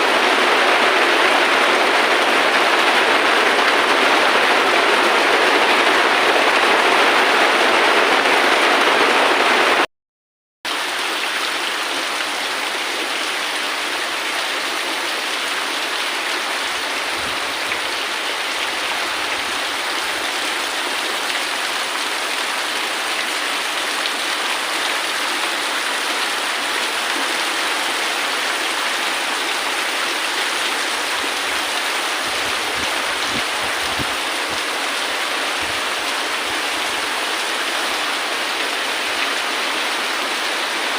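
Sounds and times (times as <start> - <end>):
steady rain falling: 0.0 - 9.9, 10.7 - 40.9.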